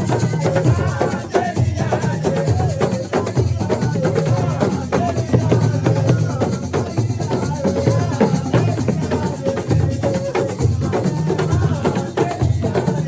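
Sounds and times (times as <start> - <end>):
hand drums: 0.0 - 13.0
voices singing: 0.0 - 13.0.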